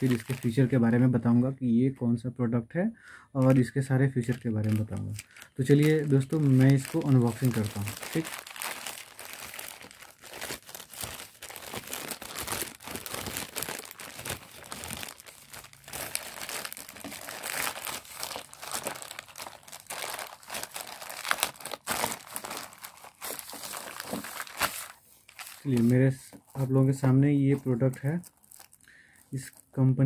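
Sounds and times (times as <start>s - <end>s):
plastic bag tearing open: 0.0s - 0.6s, 4.2s - 26.8s, 27.5s - 29.8s
plastic mailer bag crinkling: 0.0s - 0.8s, 3.4s - 29.8s.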